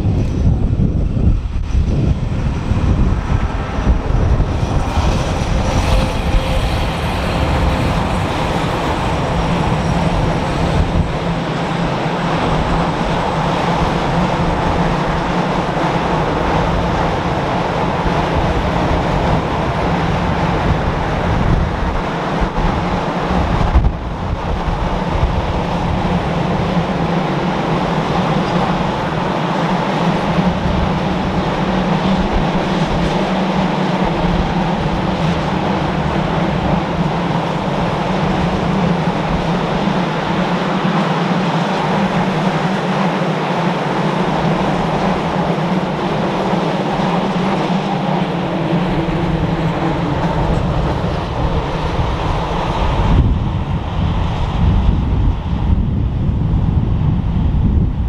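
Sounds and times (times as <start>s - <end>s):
low hum: 0.0s - 58.0s
train wheels rumbling on rails: 0.0s - 58.0s.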